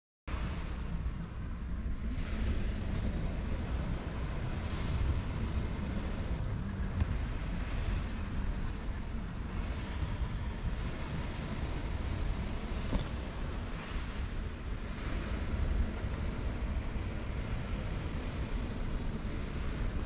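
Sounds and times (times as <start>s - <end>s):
low rumbling: 0.3s - 20.0s.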